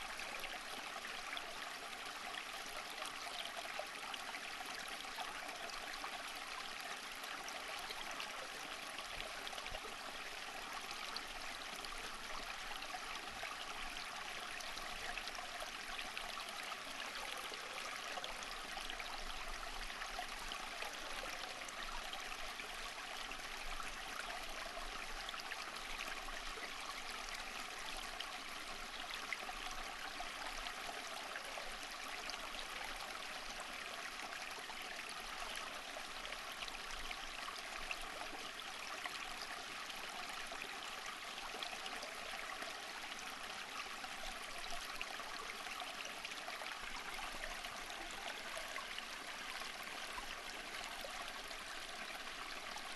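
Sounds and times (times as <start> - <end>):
stream of running water: 0.0 - 52.9.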